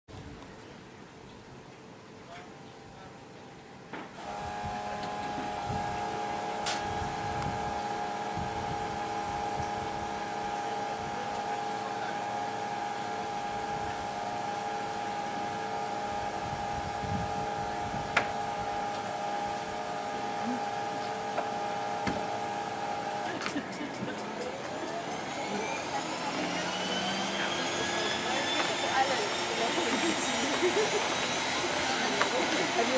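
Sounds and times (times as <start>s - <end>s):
seaplane engines whining in cabin: 4.2s - 32.9s.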